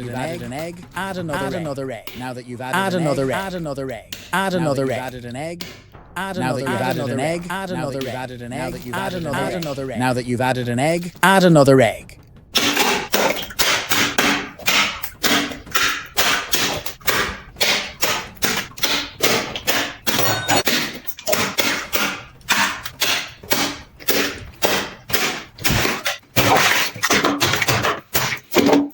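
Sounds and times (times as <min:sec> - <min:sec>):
sharp percussive hits: 0:00.0 - 0:26.7.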